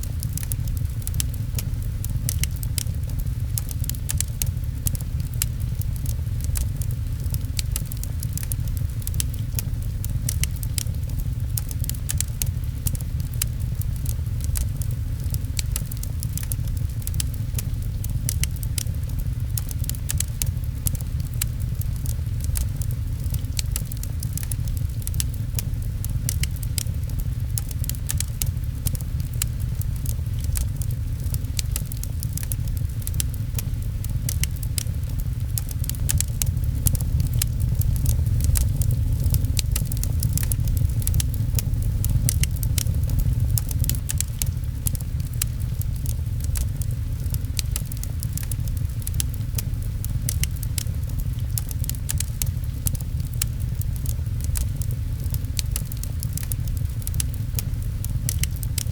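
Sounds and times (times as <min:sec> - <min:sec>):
fireplace crackling and popping: 0:00.0 - 0:58.9
low rumble: 0:00.0 - 0:58.9
rain pattering: 0:00.0 - 0:58.9.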